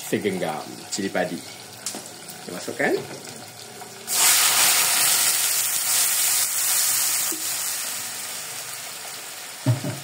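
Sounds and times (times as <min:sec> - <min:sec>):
spice paste sizzling in oil: 0:00.0 - 0:09.7.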